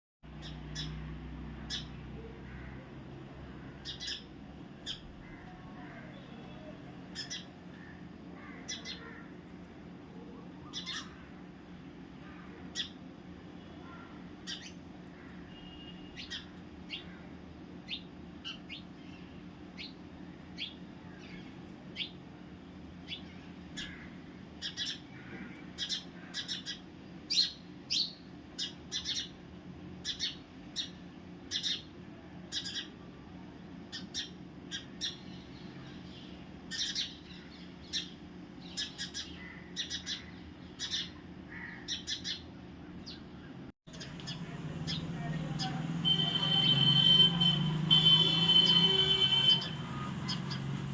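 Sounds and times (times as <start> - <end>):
small birds chirping: 0.3 - 9.4, 10.5 - 22.2, 23.0 - 29.4, 30.0 - 33.1, 33.9 - 50.8
steady low hum: 0.3 - 50.9.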